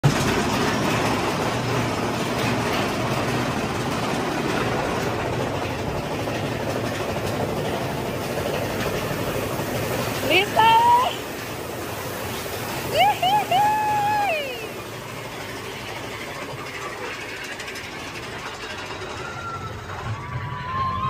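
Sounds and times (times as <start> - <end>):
roller coaster rumbling on track: 0.0 - 21.0.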